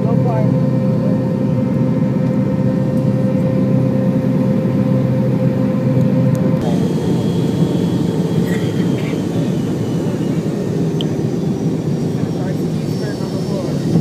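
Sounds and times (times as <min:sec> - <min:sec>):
constant cabin hum: 0:00.0 - 0:14.0
jet engine and airflow noise: 0:00.0 - 0:14.0.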